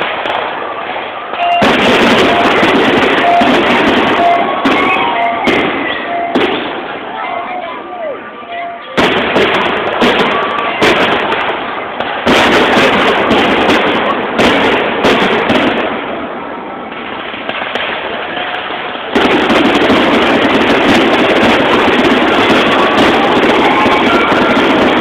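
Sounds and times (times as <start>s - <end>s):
fireworks bursting: 0.0s - 25.0s
fireworks crackle: 0.0s - 25.0s.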